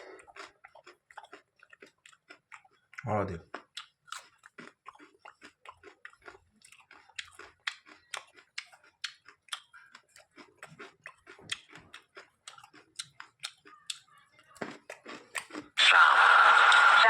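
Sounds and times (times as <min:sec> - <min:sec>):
chewing crisp raw vegetables: 0:00.0 - 0:17.0.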